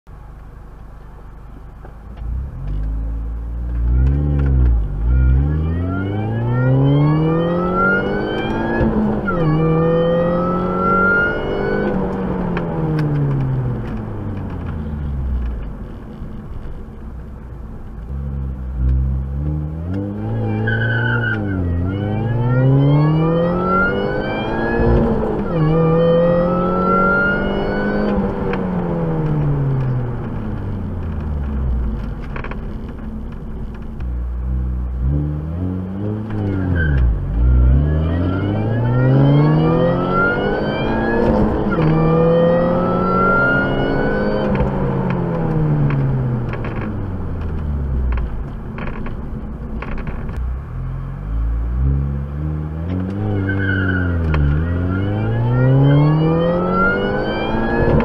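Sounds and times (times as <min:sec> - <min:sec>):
car engine accelerating with upshifts: 0:00.2 - 0:58.0.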